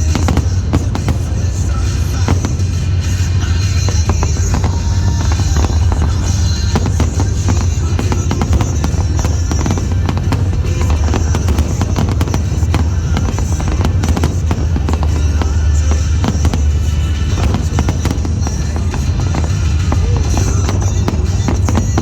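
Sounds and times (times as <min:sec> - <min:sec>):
fireworks bangs and crackling: 0:00.0 - 0:22.0
loud music: 0:00.0 - 0:22.0.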